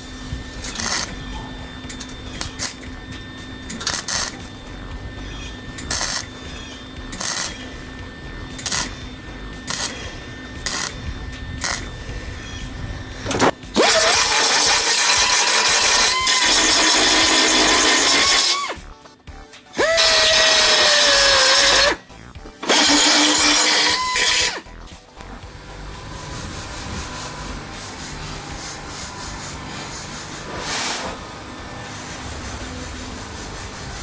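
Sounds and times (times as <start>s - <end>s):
belt sander grinding steel: 0.0s - 18.9s, 19.8s - 22.0s, 22.6s - 24.7s, 25.7s - 34.0s.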